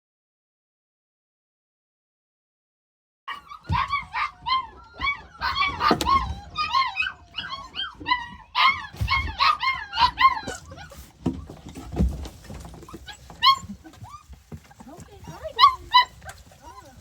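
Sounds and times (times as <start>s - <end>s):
puppies whimpering and yipping: 3.3s - 17.0s.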